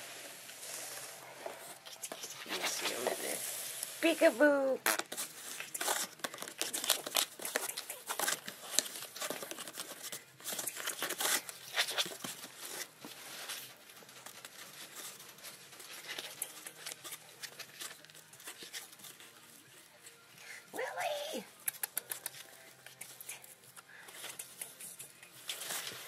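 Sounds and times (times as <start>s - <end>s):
ferret scratching in cardboard box: 1.6s - 19.9s, 21.9s - 26.0s.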